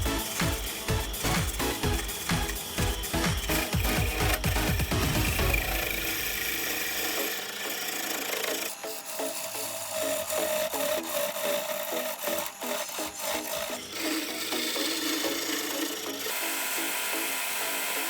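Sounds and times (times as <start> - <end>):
gouge cutting wood on a lathe: 0.0 - 18.0.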